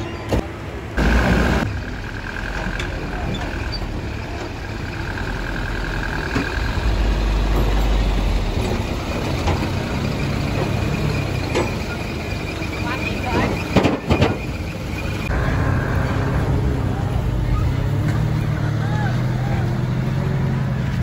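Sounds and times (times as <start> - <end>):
dump truck diesel engine: 0.0 - 21.0.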